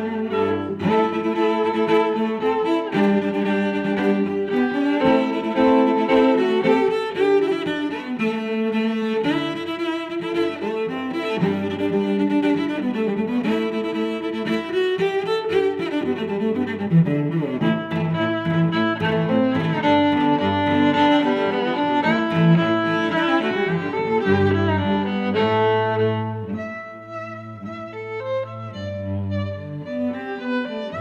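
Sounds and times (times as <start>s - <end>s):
cello and violin music: 0.0s - 31.0s.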